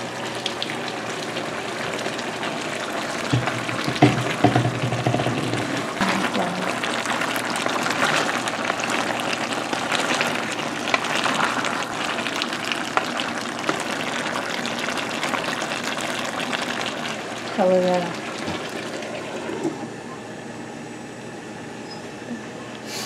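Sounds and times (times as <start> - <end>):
meat sizzling in a frying pan: 0.0 - 19.3.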